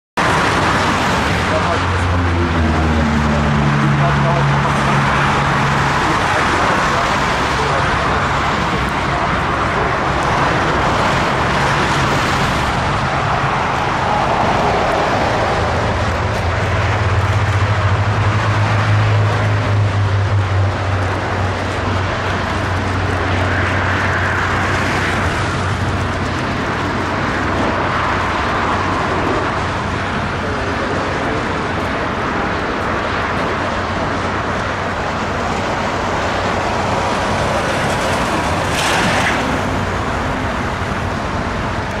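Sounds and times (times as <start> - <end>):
jet engines rushing: 0.2 - 42.0.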